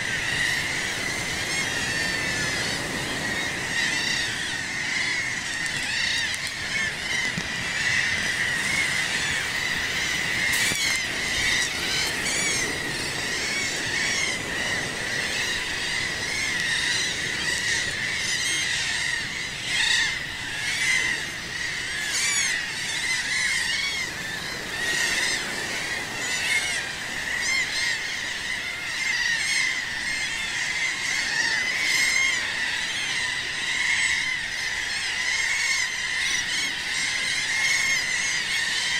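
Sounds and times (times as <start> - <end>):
seabirds calling: 0.0 - 38.9.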